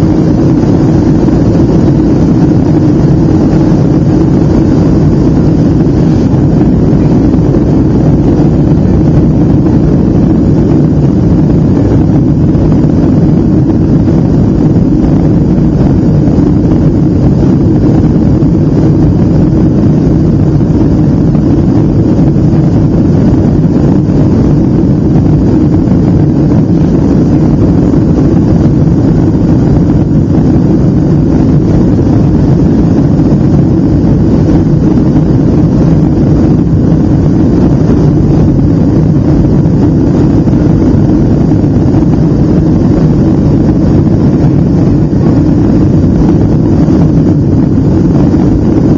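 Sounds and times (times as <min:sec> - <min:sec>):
airplane cabin jet engine noise: 0:00.0 - 0:48.9.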